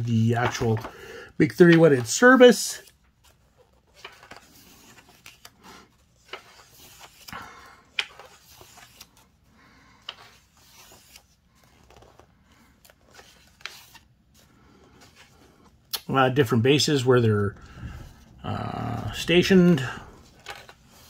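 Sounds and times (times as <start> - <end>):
book pages turning: 0.0 - 16.1, 17.0 - 21.0.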